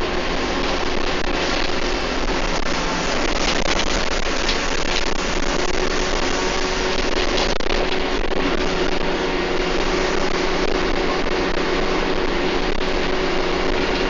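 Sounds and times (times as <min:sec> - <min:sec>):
bus engine drone: 0:00.0 - 0:14.0
engine whine: 0:00.0 - 0:14.0.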